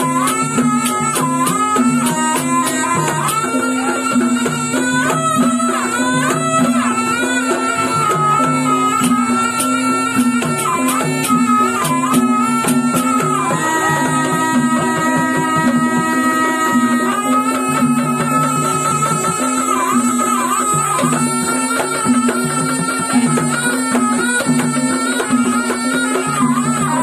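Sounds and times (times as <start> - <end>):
gamelan with percussion: 0.0 - 27.0
shawm melody: 0.0 - 27.0.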